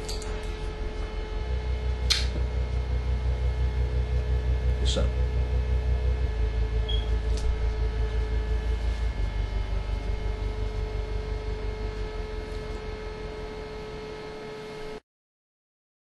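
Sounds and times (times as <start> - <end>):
low throbbing rumble: 0.0 - 14.6
steady hum: 0.0 - 15.0.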